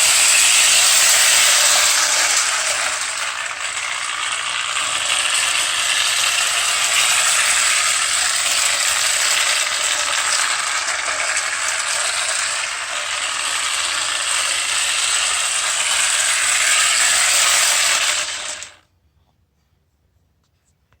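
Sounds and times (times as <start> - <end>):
toy train motor whirring and rattling: 0.0 - 18.8.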